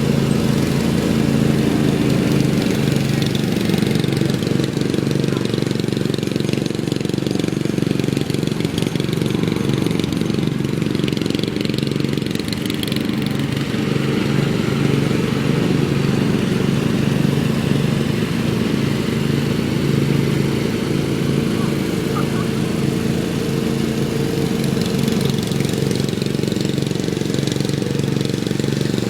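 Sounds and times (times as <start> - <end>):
riding lawn mower engine: 0.0 - 29.0.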